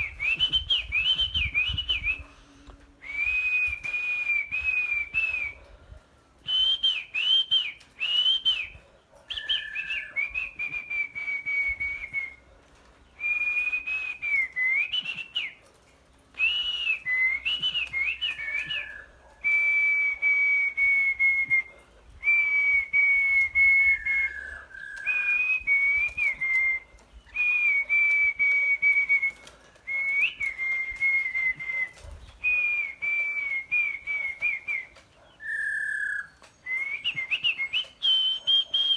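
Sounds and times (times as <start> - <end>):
clear whistled song: 0.0 - 5.6, 6.4 - 12.4, 13.0 - 15.7, 16.4 - 38.9.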